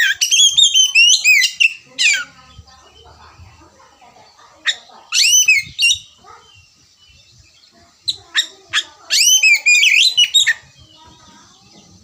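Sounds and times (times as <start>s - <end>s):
bird singing whistled notes: 0.0s - 3.4s, 4.7s - 12.0s.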